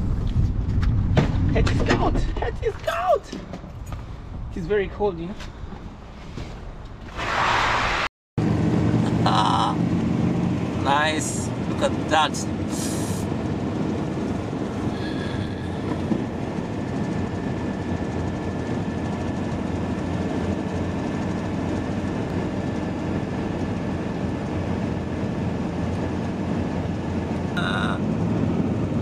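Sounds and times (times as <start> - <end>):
engine drone: 0.0 - 7.0, 7.8 - 29.0.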